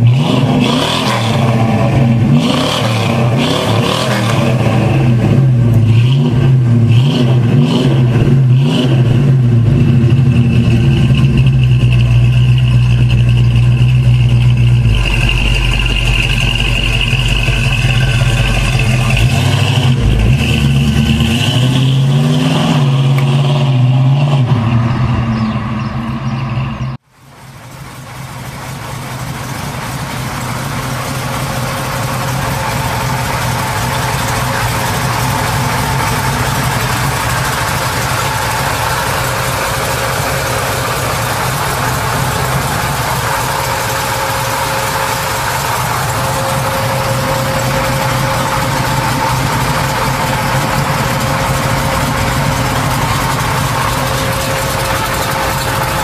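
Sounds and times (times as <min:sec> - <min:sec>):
car driving off: 0:00.0 - 0:56.0
car engine idling: 0:00.0 - 0:56.0.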